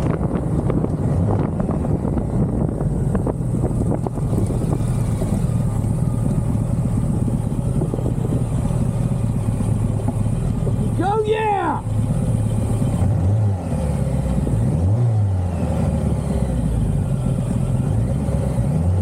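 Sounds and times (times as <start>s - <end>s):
motorcycle engine humming: 0.0s - 19.0s
road and wind noise: 0.0s - 19.0s.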